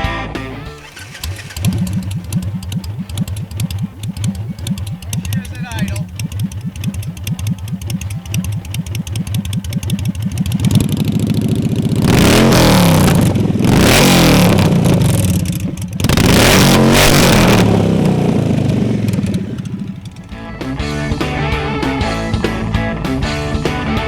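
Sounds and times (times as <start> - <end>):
motorcycle engine idling and revving: 0.4 - 21.4.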